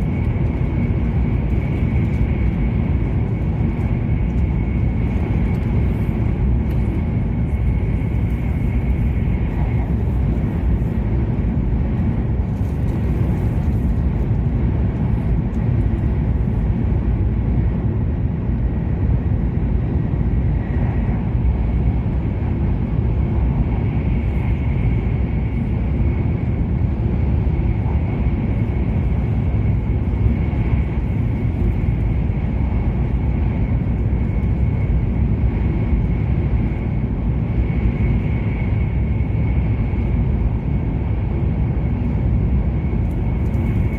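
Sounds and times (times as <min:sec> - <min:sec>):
train rumble inside cabin: 0:00.0 - 0:43.9.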